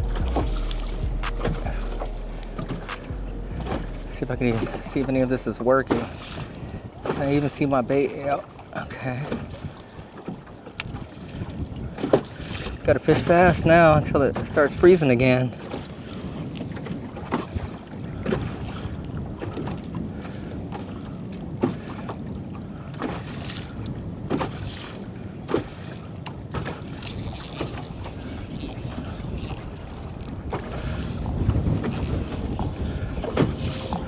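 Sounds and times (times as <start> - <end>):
waves slapping against hull: 0.0 - 34.0
wind buffeting microphone: 0.0 - 34.0.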